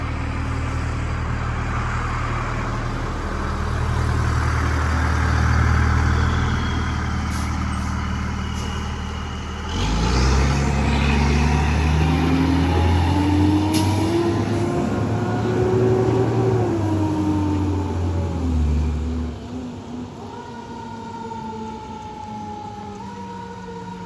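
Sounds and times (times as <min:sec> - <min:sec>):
fire engine running: 0:00.0 - 0:24.0.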